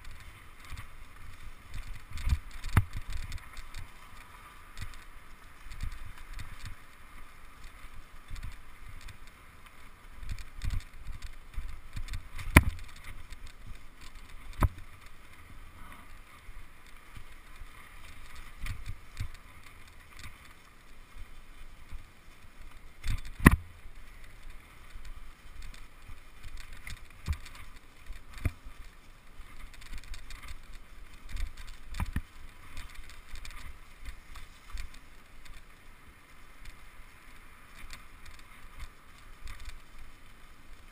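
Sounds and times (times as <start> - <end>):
steady rolling hiss: 0.0 - 40.9.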